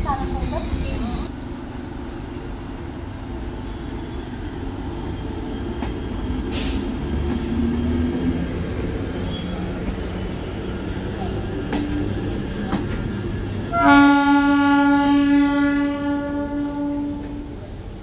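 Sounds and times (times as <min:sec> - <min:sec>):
train rumbling on tracks: 0:00.0 - 0:18.0.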